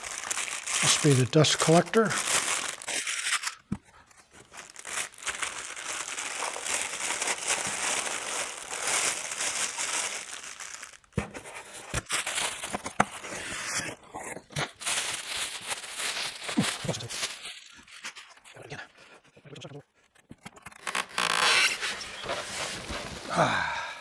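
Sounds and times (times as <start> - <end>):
packing material crinkling and tearing: 0.0 - 13.9, 14.6 - 18.4, 20.5 - 24.0.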